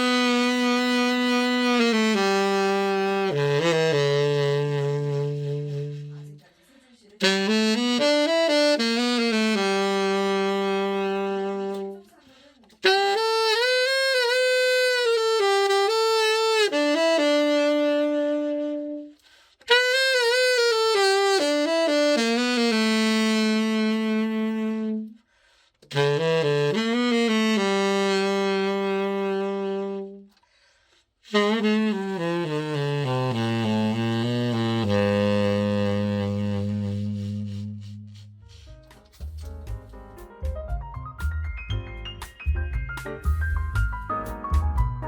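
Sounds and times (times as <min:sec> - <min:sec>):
tenor saxophone melody: 0:00.0 - 0:06.4, 0:07.2 - 0:12.1, 0:12.7 - 0:39.2.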